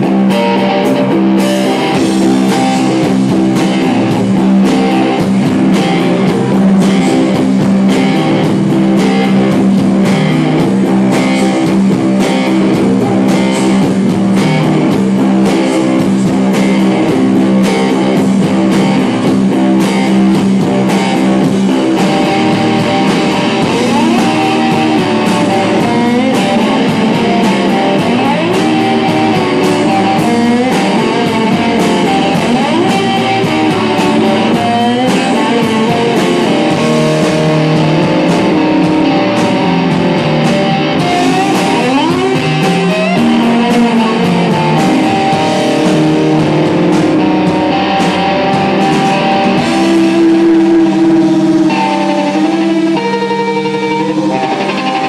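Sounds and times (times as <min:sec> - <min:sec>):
rock band playing: 0:00.0 - 0:55.0
sliding guitar notes: 0:00.0 - 0:55.0.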